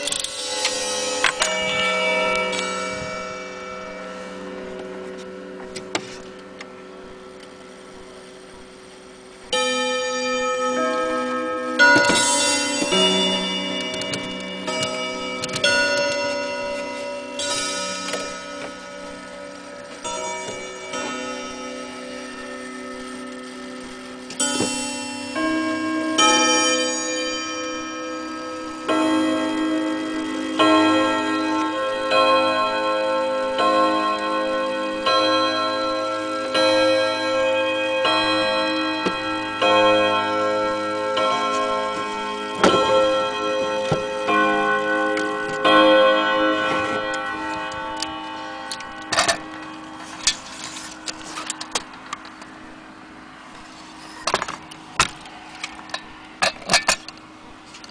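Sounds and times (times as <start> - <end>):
wall clock chimes: 0.0 - 57.9.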